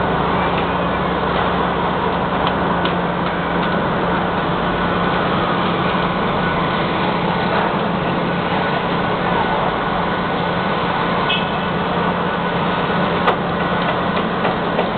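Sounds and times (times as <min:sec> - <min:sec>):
diesel engine humming: 0:00.0 - 0:14.9.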